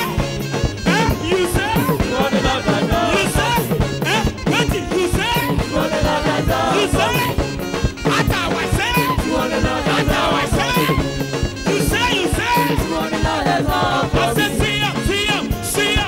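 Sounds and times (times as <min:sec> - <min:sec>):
gospel singers with band: 0:00.0 - 0:16.0.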